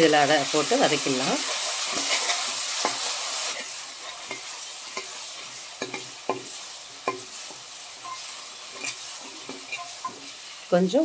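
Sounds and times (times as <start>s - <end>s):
paste sizzling in oil: 0.0s - 11.0s
metal spoon scraping a pan: 1.0s - 10.7s.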